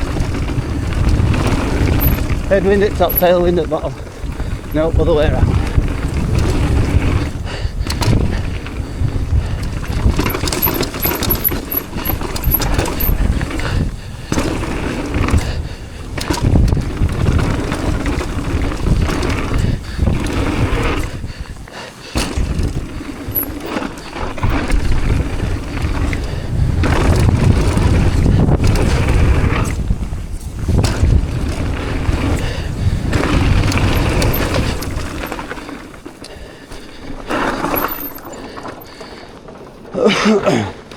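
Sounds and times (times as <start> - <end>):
bike knocking and rattling: 0.0 - 40.9
bike tyres rumbling on dirt: 0.0 - 40.9
wind buffeting microphone: 0.0 - 40.9.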